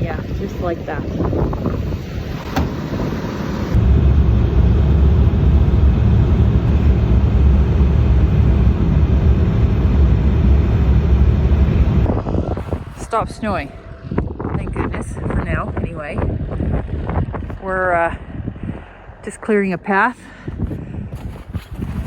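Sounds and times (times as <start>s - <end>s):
tractor engine rumbling: 0.0s - 22.0s.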